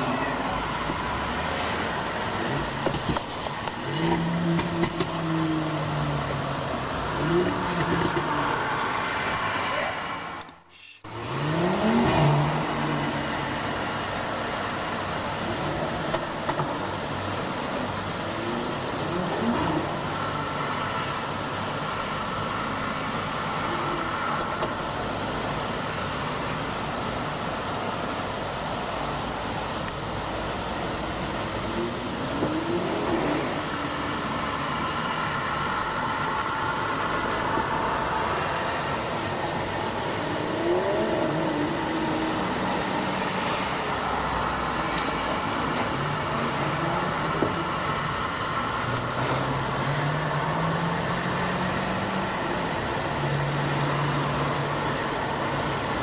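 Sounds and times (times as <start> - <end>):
cars driving by: 0.0 - 56.0.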